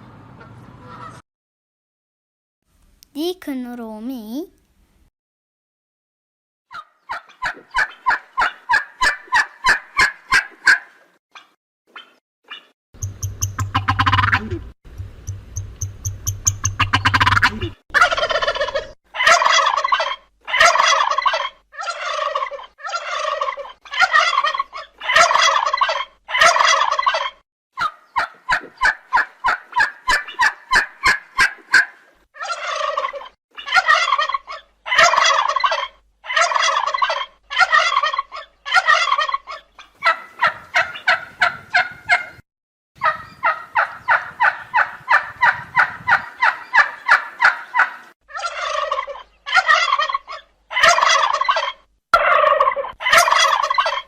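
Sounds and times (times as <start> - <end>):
turkey gobbling: 0.4 - 1.2, 6.7 - 14.6, 15.8 - 42.4, 43.0 - 54.0.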